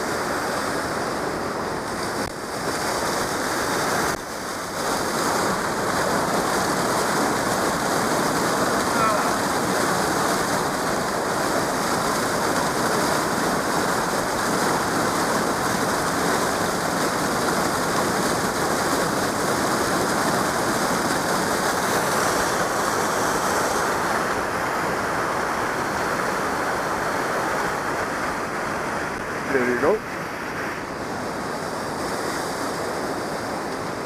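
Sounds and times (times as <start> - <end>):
waterfall and stream rushing: 0.0 - 34.0.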